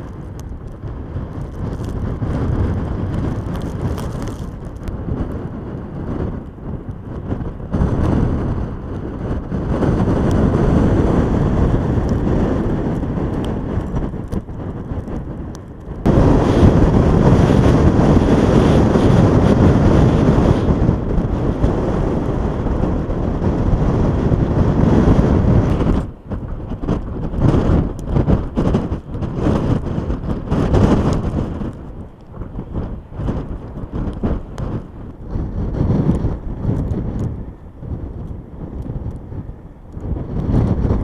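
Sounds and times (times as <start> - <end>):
heavy vehicle engine rumbling: 0.0 - 41.0
wind noise on microphone: 0.0 - 41.0.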